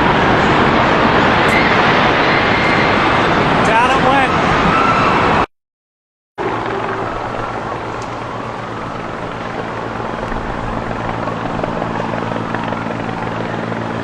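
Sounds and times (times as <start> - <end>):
helicopter drone overhead: 0.0 - 5.5, 6.4 - 14.0.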